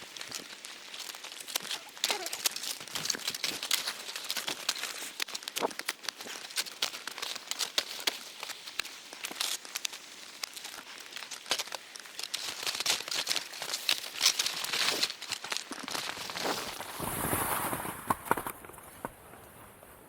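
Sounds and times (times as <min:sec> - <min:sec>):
crinkling and crackling: 0:00.0 - 0:20.0.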